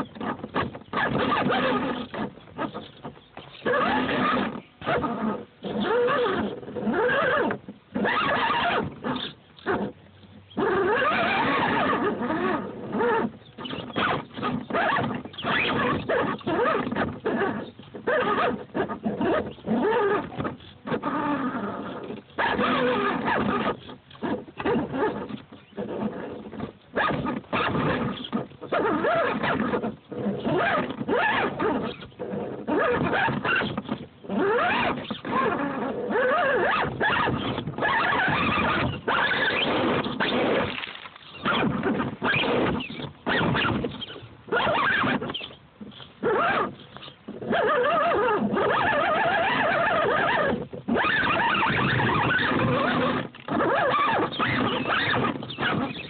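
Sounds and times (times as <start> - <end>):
toy car electric motor whining: 0.5 - 56.0.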